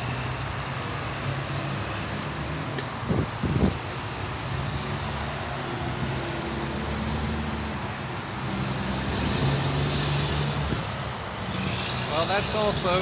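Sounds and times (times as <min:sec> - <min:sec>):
heavy vehicle engine hum: 0:00.0 - 0:13.0
highway traffic passing: 0:00.0 - 0:13.0.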